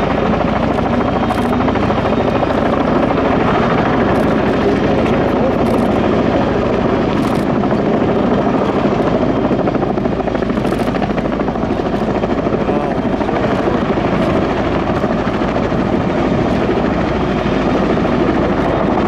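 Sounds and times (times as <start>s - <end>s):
helicopter rotors beating: 0.0s - 19.0s
turbine engine whine: 0.0s - 19.0s.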